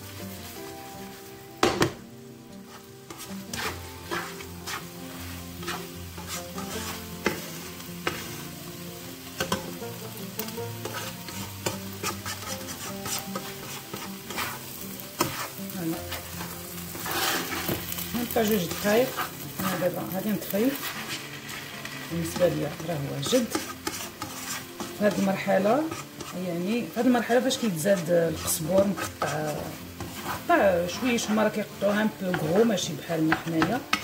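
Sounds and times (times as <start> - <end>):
food sizzling in frying pan: 0.0 - 34.0
spatula scraping a pan: 2.6 - 34.0.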